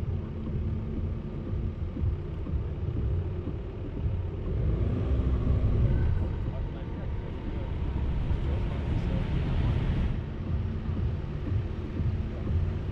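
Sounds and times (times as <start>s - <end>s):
road noise: 0.0s - 12.9s
vehicle engine rumble: 0.0s - 12.9s.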